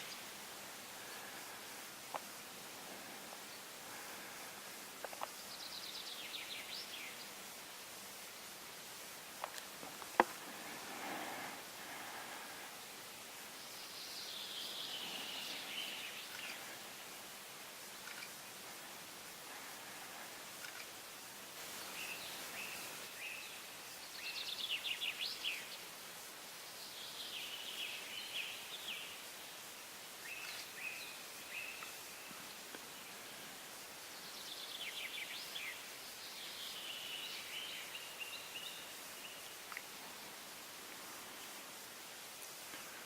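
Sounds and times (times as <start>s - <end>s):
outdoor hiss: 0.0s - 43.0s.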